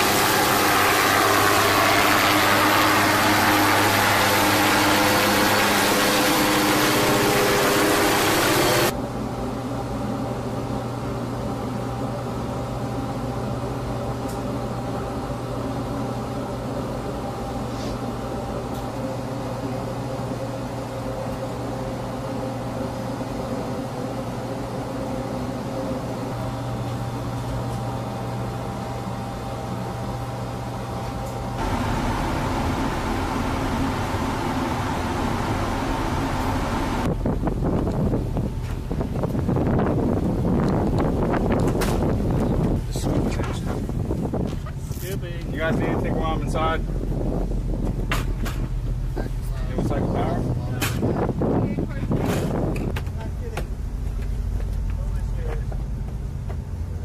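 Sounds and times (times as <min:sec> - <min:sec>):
helicopter turbine and rotor noise: 0:00.0 - 0:57.0
low mechanical hum: 0:00.0 - 0:57.0.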